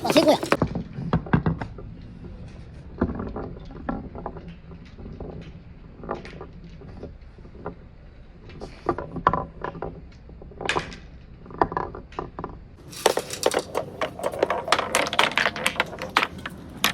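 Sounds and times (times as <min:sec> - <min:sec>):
marbles rolling on wooden run: 0:00.0 - 0:16.9.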